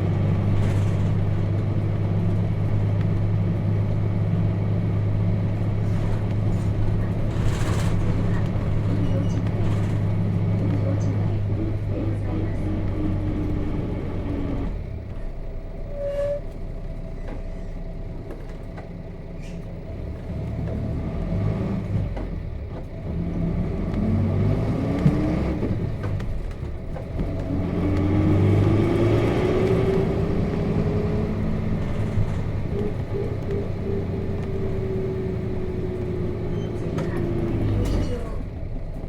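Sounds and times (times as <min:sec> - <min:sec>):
bus diesel engine revving: 0:00.0 - 0:15.7, 0:16.6 - 0:39.0.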